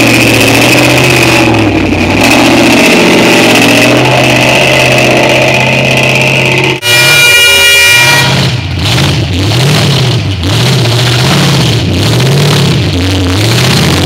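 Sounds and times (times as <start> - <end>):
buggy engine revving: 0.0 - 7.2, 7.9 - 14.0.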